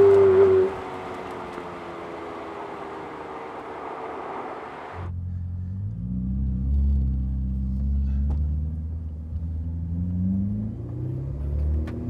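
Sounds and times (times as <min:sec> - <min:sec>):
car engine drone inside cabin: 0:00.0 - 0:12.0.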